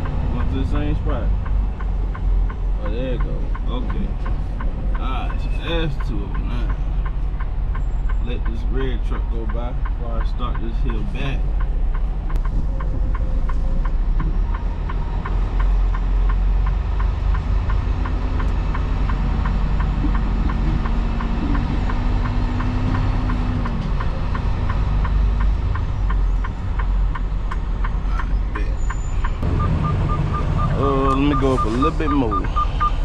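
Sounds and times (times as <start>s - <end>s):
diesel truck engine running: 0.0s - 33.0s
steady ticking: 0.0s - 33.0s.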